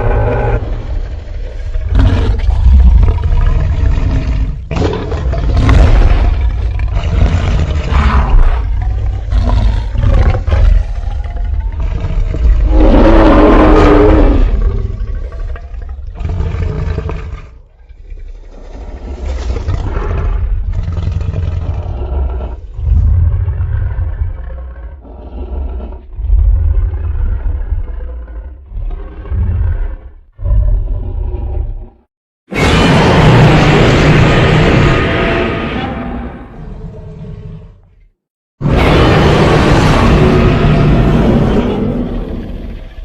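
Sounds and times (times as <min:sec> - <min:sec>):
monster roars: 0:00.0 - 0:15.6, 0:19.7 - 0:37.8, 0:38.6 - 0:43.0.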